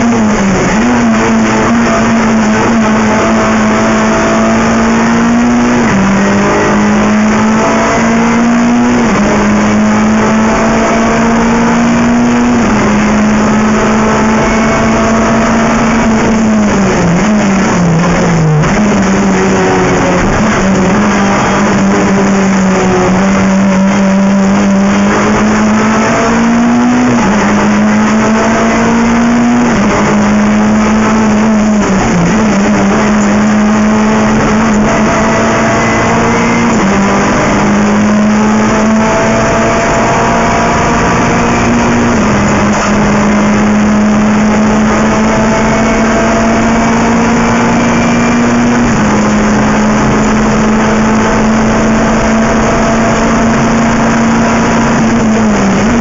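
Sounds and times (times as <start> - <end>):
race car engine at high revs: 0.0 - 56.0
road and wind noise: 0.0 - 56.0.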